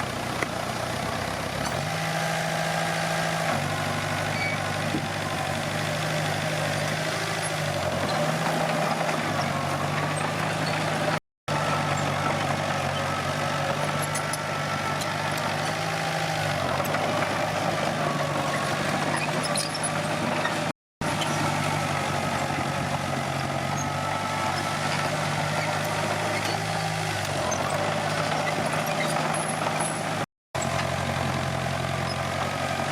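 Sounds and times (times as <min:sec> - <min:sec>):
bulldozer diesel engine running: 0:00.0 - 0:32.9.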